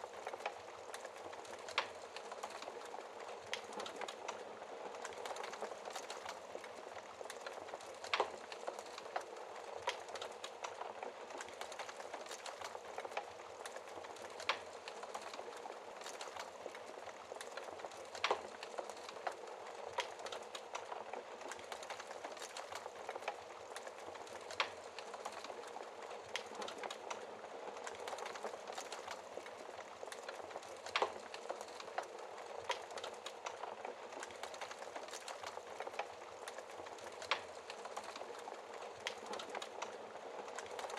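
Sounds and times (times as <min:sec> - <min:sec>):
logs crackling in a fireplace: 0:00.0 - 0:40.9.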